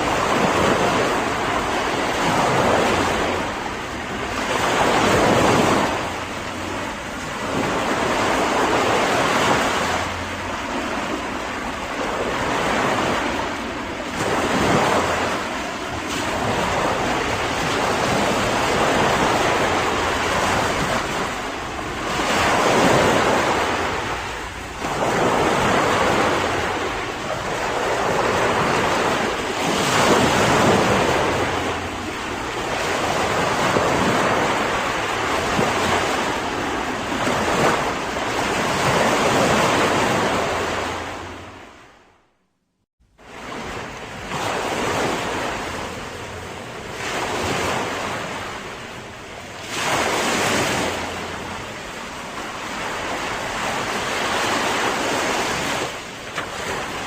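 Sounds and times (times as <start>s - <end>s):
sea waves washing in: 0.0s - 42.3s, 43.1s - 57.0s.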